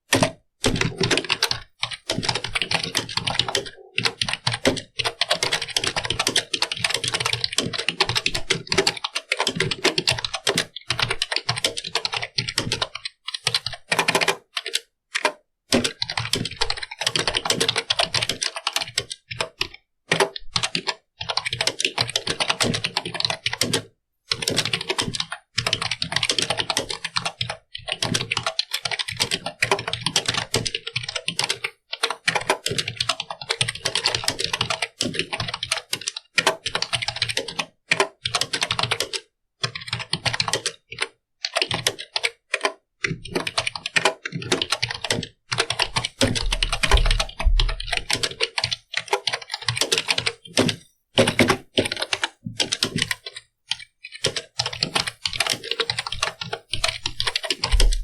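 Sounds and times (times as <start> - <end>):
computer keyboard typing: 0.1 - 58.0.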